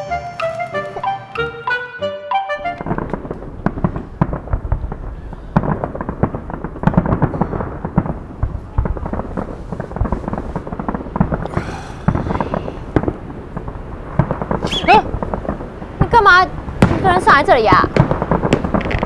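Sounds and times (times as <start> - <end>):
fireworks bangs and crackles: 2.7 - 19.0
crackling hiss: 2.8 - 19.0
deep fireworks booms: 2.8 - 19.0.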